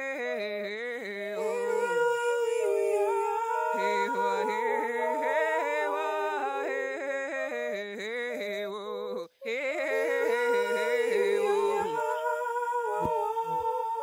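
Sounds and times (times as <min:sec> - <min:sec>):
voices singing and humming: 0:00.0 - 0:14.0.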